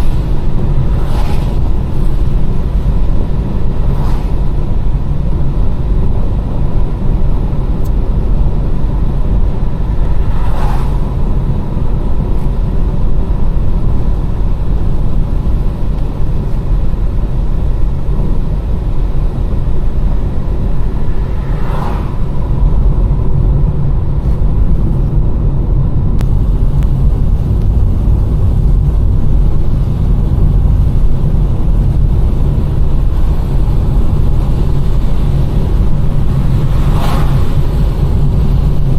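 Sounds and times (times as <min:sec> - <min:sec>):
car driving on wet road: 0:00.0 - 0:38.9.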